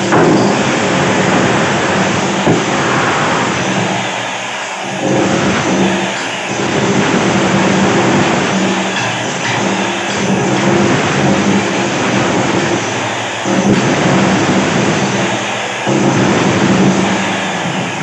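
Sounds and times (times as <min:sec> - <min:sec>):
electric power tool running: 0:00.0 - 0:18.0.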